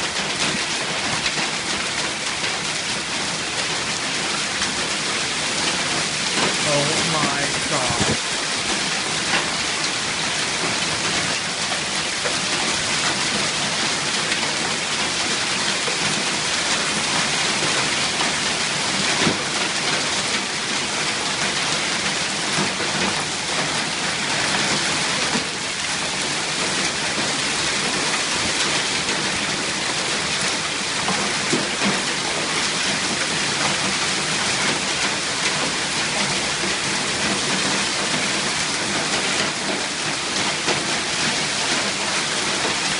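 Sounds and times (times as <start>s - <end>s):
hail and rain pelting down: 0.0s - 42.9s.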